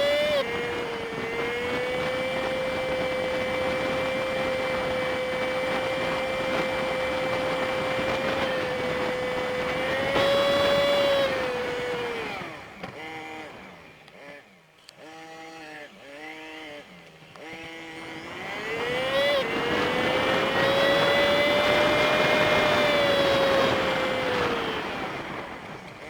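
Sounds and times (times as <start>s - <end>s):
wind noise: 0.0s - 12.9s, 17.7s - 26.0s
motorcycle engine drone: 0.0s - 26.0s.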